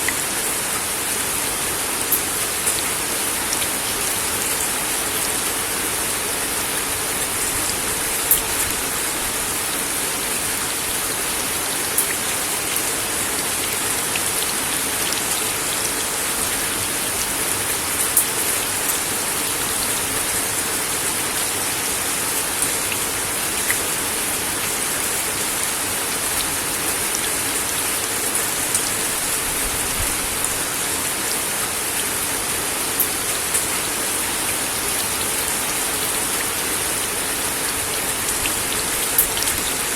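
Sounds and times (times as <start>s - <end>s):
rain on a wooden deck: 0.0s - 39.9s.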